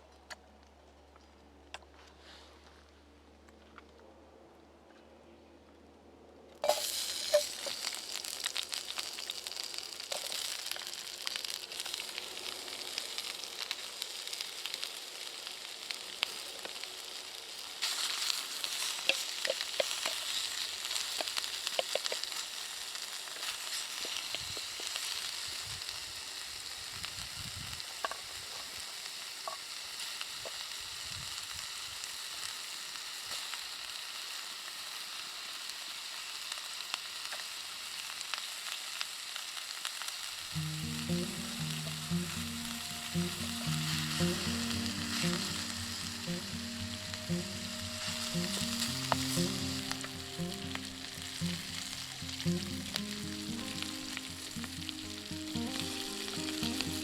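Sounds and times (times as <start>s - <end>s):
food sizzling in a pan: 6.6s - 57.0s.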